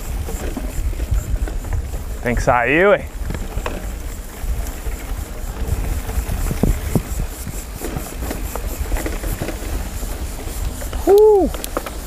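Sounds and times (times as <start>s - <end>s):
mountain bike rattling and clicking: 0.0s - 12.0s
wind rumbling on microphone: 0.0s - 12.0s.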